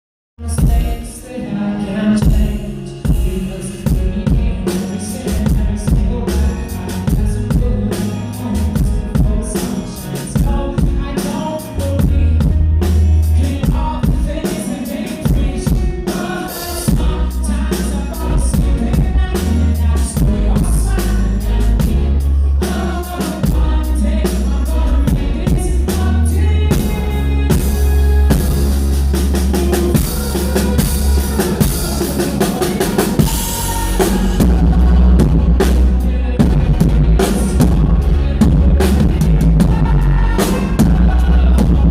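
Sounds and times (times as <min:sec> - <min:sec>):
live rock band playing: 0:00.4 - 0:41.9
man singing lead vocal: 0:00.4 - 0:41.9
heavy bass: 0:02.2 - 0:14.6, 0:15.2 - 0:41.9
drum kit kick and snare: 0:02.2 - 0:41.9.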